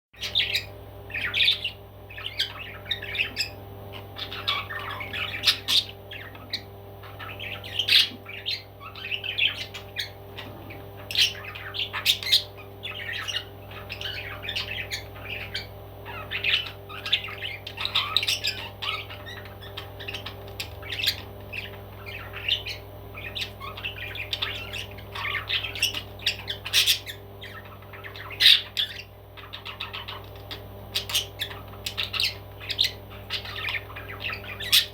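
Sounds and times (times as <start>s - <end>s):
parrot squawking: 0.2s - 34.9s.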